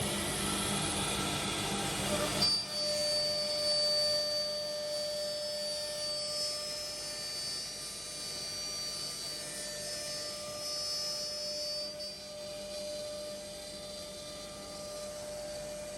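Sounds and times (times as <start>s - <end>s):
router spindles high whine: 0.0s - 15.9s.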